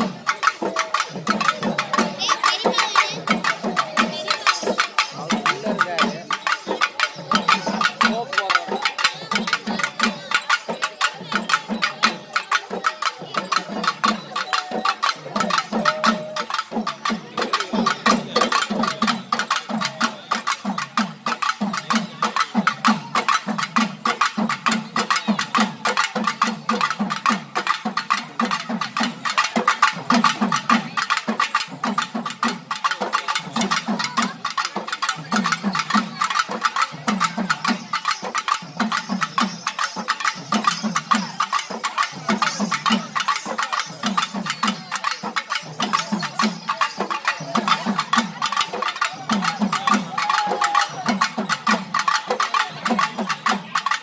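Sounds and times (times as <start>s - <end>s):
rapid drum patter: 0.0s - 54.0s.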